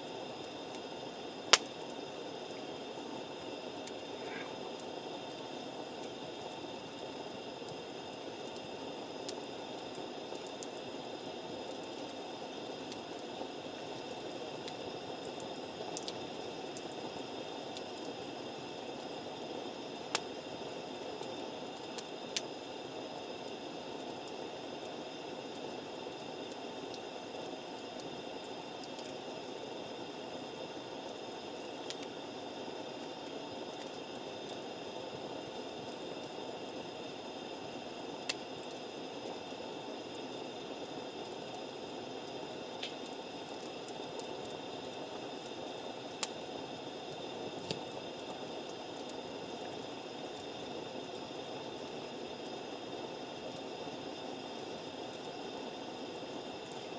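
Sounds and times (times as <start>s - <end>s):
campfire hissing: 0.0s - 56.9s
fire crackling pops: 0.0s - 56.9s.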